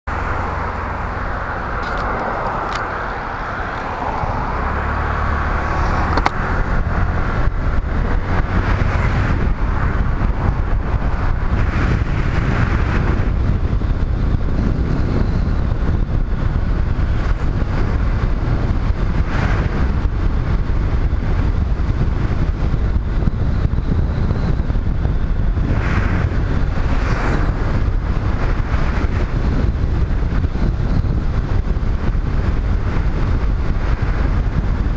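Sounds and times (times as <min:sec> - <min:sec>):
motorcycle engine and tyres: 0:00.1 - 0:34.9
wind on microphone: 0:00.1 - 0:34.9.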